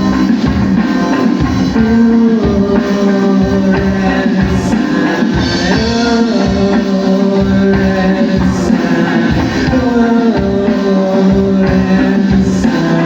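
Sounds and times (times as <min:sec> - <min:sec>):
drum kit beat: 0:00.0 - 0:13.0
guitars holding chords: 0:00.0 - 0:13.0.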